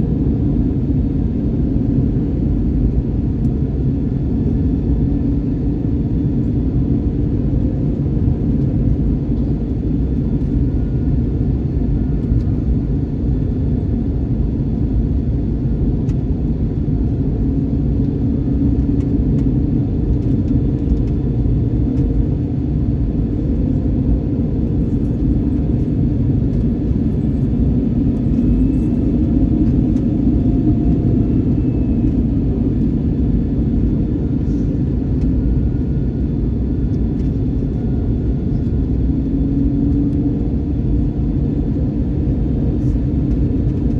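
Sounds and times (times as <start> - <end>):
airplane cabin rumble: 0.0 - 43.9.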